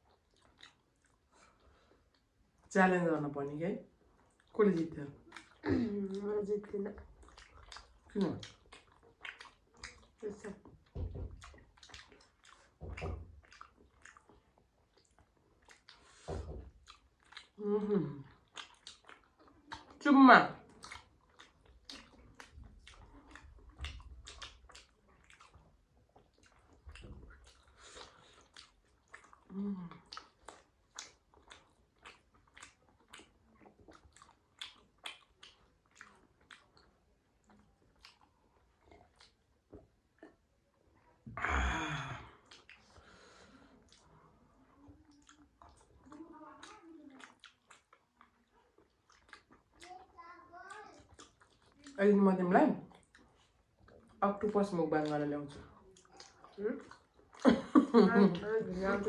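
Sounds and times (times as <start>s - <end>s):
chewing and wet mouth smacks: 0.0s - 2.7s, 3.8s - 41.4s, 42.3s - 59.0s.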